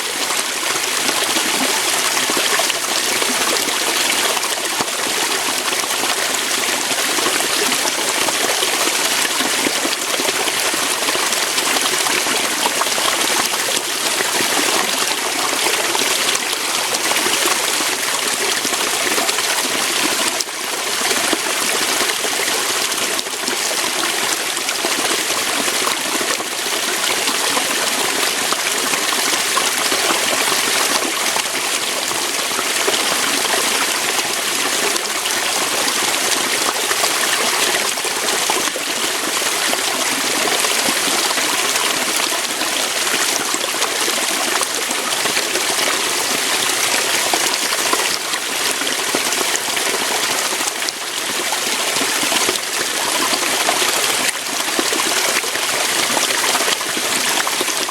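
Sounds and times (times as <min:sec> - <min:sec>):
water rushing over rocks: 0:00.0 - 0:57.9.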